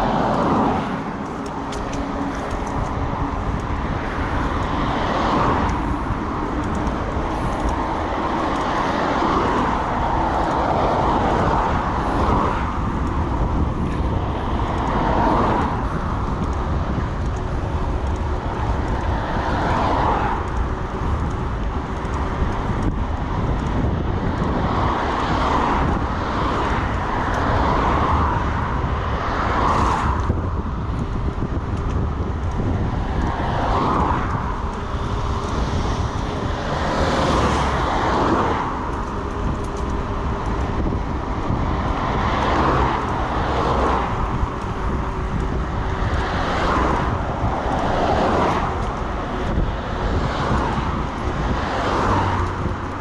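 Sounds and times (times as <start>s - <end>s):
bicycle road rumble: 0.0s - 53.0s
wind: 0.0s - 53.0s.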